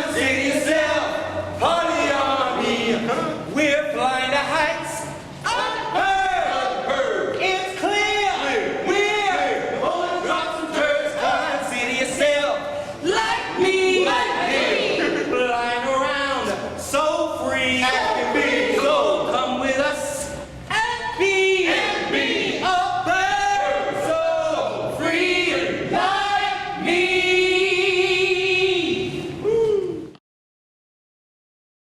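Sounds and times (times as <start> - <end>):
choir singing: 0.0 - 4.0, 5.4 - 29.4.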